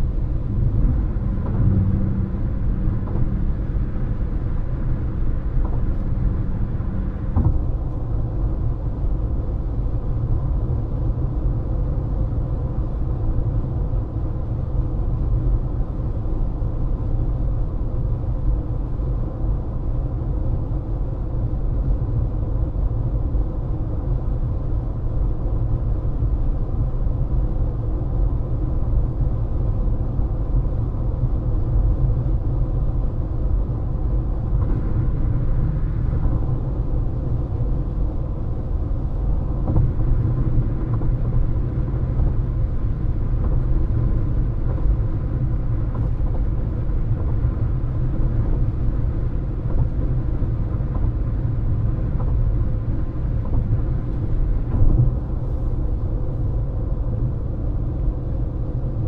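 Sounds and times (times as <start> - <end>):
low steady hum: 0.0 - 59.0
road and tyre rumble: 0.0 - 59.0.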